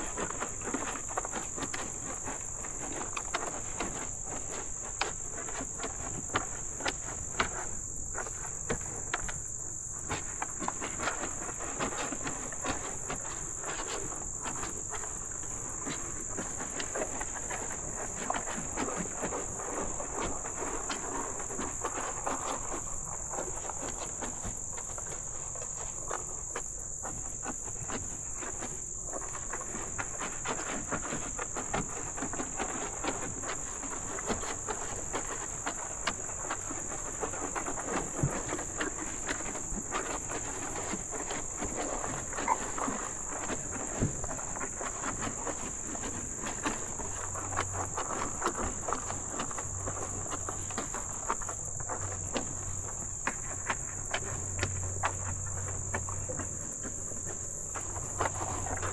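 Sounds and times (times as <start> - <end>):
insect chorus drone: 0.0 - 58.9.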